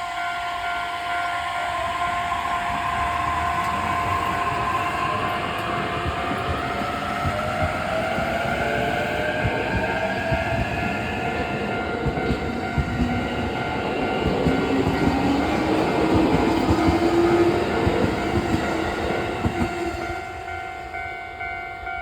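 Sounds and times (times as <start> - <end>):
crossing warning bell ringing: 0.0 - 22.0
train whine: 0.0 - 22.0
train wheels clacking: 2.1 - 20.9.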